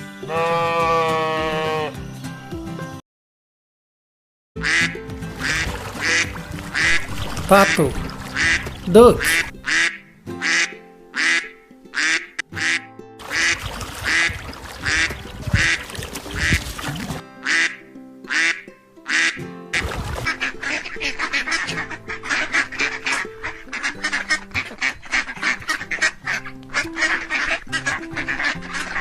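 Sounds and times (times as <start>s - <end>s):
background music: 4.6s - 29.0s
ducks quacking: 4.6s - 29.0s.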